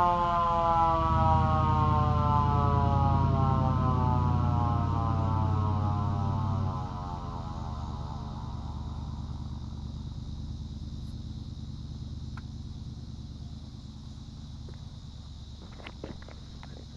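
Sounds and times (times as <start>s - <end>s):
siren coasting down rumble: 0.0s - 16.9s.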